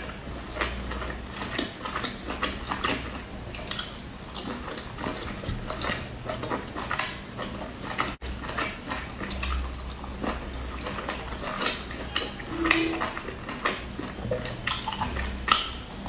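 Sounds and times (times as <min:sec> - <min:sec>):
chewing with wet smacks: 0:00.0 - 0:16.0.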